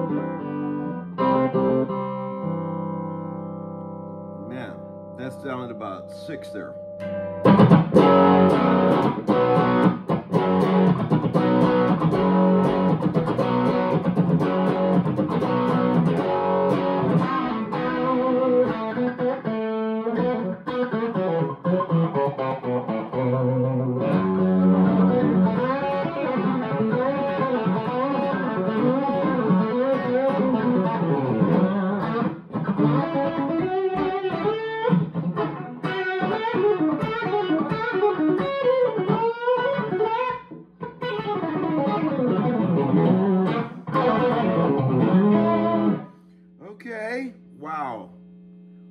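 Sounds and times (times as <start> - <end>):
electric guitar lead line: 0.0 - 46.3.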